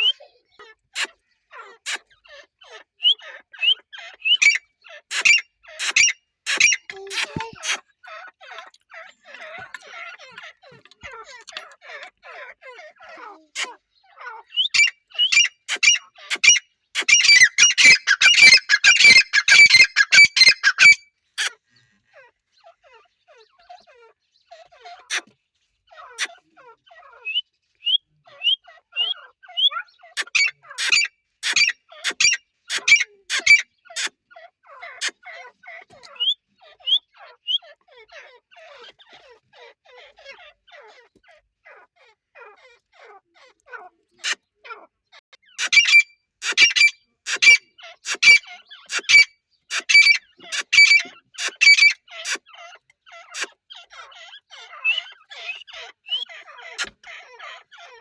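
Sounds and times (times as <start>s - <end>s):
francolins calling: 0.0s - 21.5s, 25.9s - 41.1s, 45.4s - 58.0s
soft bird chatter: 0.0s - 58.0s.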